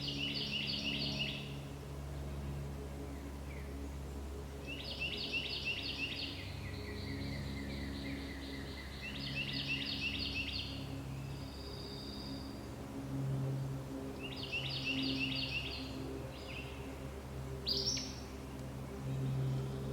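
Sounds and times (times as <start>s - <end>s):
songbird singing: 0.0s - 1.6s, 3.0s - 12.7s, 14.2s - 19.9s
steady low hum: 0.0s - 19.9s.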